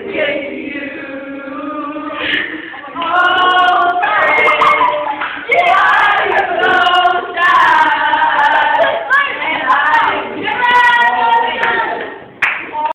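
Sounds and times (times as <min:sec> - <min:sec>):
girls singing unaccompanied: 0:00.0 - 0:12.9.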